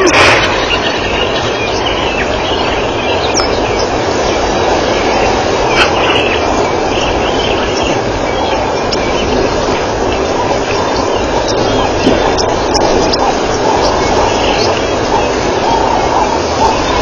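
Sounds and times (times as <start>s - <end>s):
birds chirping: 0.0s - 17.0s
rushing bush background noise: 0.0s - 17.0s.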